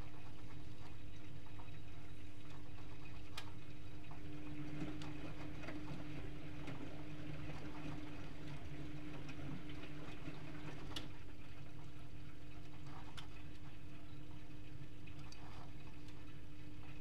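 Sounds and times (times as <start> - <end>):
washing machine hum: 0.0 - 17.0
water sloshing in washing machine: 0.0 - 17.0.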